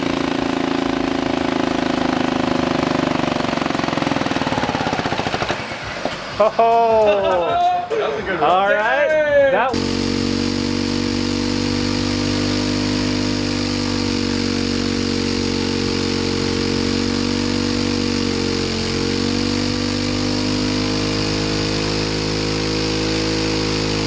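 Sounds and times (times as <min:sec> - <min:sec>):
engine running steadily: 0:00.0 - 0:07.5, 0:08.3 - 0:24.0.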